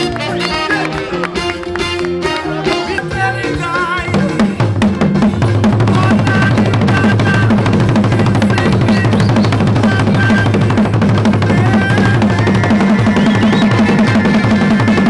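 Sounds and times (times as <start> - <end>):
melodic tune: 0.0 - 15.0
fast hand drumming: 0.1 - 15.0.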